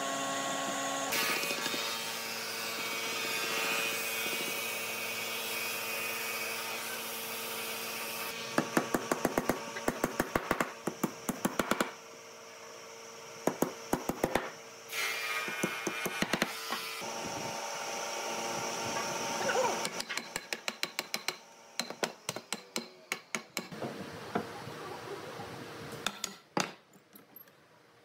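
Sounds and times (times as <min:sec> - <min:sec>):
faint workshop hum: 0:00.0 - 0:28.0.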